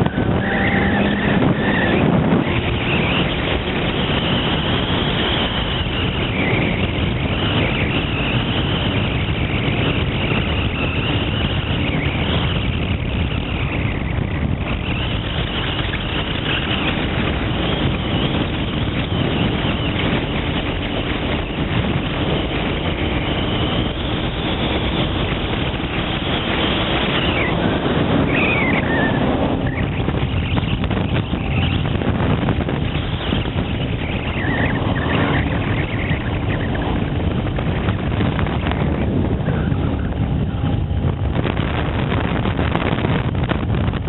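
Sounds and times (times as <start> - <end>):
motorcycle engine running: 0.0 - 44.0
road noise: 0.0 - 44.0
wind noise: 0.0 - 44.0.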